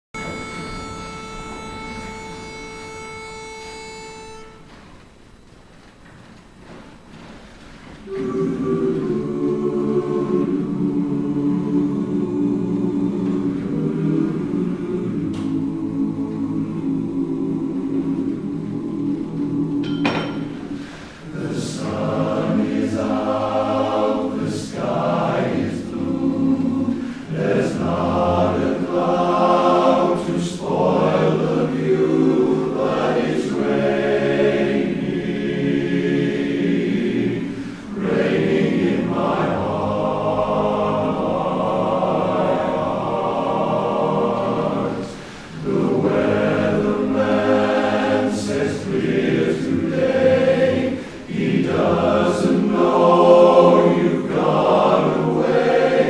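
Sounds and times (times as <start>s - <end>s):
a cappella chorus singing: 8.0s - 56.0s.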